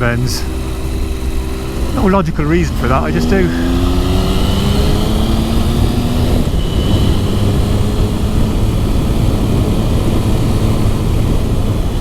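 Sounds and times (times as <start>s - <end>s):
motorcycle engine running: 0.0s - 12.0s
wind rushing on microphone: 0.4s - 12.0s.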